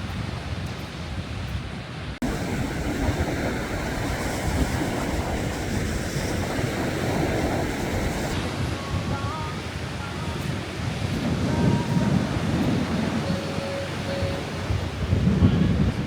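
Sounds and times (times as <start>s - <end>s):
sea surf washing ashore: 0.0s - 16.0s
wind on microphone: 0.0s - 16.0s.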